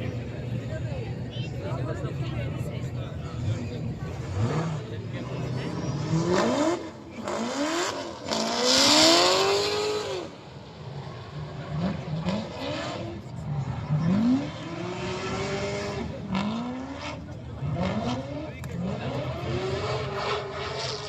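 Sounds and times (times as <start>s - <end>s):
car engines revving hard: 0.0s - 21.0s.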